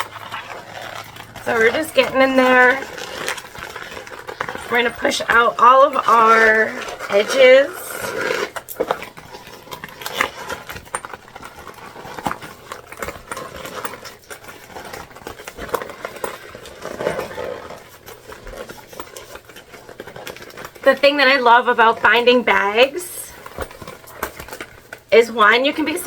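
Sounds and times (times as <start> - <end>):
plastic bag rustling and clicking: 0.0 - 21.1.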